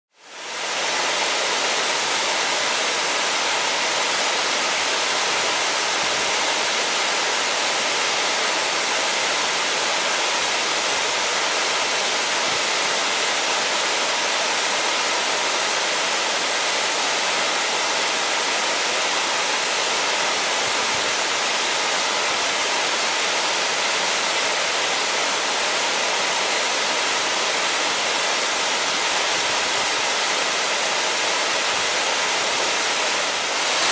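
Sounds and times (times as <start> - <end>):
waterfall splashing into pool: 0.3 - 33.9.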